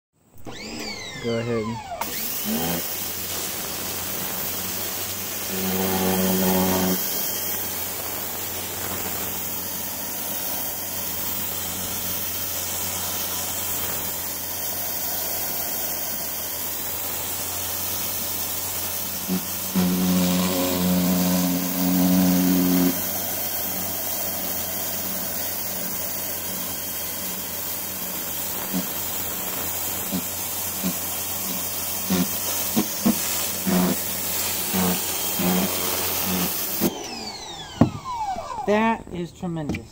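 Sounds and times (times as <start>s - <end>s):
pressure washer jet hissing: 0.4s - 39.2s.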